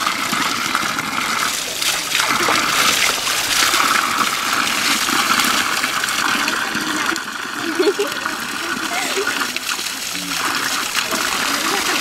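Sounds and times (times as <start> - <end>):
vegetables rinsed in water: 0.0 - 12.0
water jet splashing on ground: 0.0 - 12.0.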